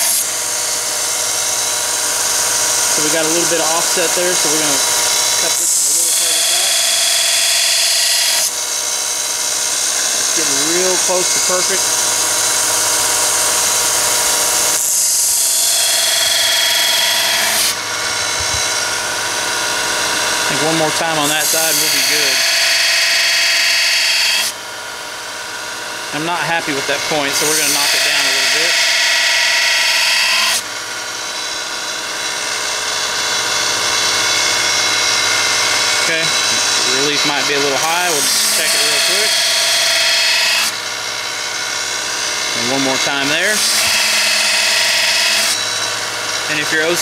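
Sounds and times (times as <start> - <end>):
belt sander running: 0.0 - 47.0
drill bit grinding on belt: 0.0 - 47.0.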